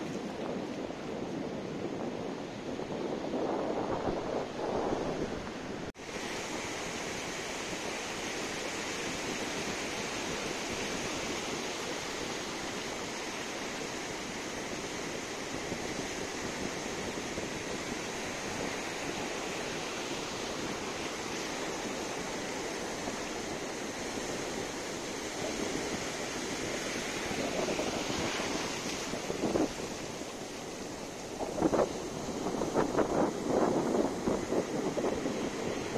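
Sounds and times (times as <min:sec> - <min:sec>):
ocean waves breaking on beach: 0:00.0 - 0:35.9.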